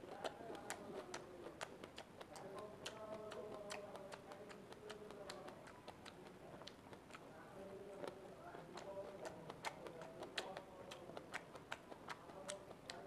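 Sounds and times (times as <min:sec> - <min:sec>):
mouth clicks and smacks: 0:00.0 - 0:13.0
person chewing strawberry: 0:00.0 - 0:13.0.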